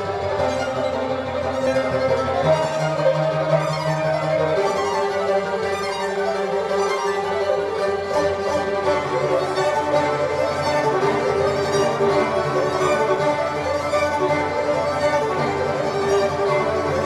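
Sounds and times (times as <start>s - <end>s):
violin music with strings: 0.0s - 17.0s.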